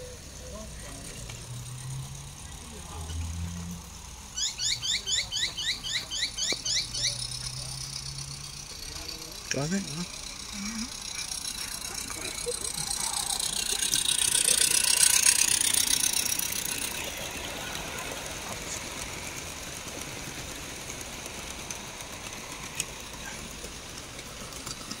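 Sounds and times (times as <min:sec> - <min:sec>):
model train running on track: 0:00.0 - 0:25.0.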